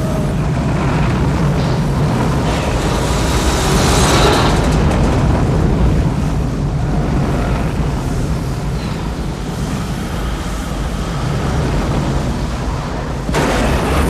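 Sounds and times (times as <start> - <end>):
deep rumble: 0.0 - 14.0
tornado wind rushing: 0.0 - 14.0.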